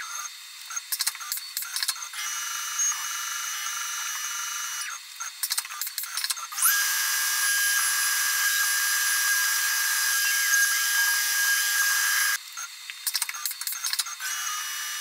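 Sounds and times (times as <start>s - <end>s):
mill spindle high whine: 0.0s - 12.4s.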